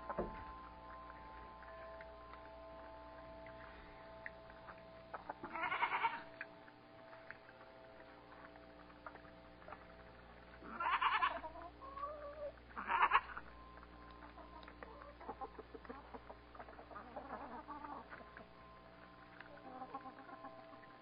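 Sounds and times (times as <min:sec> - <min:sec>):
hens calling: 0:00.0 - 0:06.7, 0:08.4 - 0:21.0
steady hum: 0:00.0 - 0:21.0.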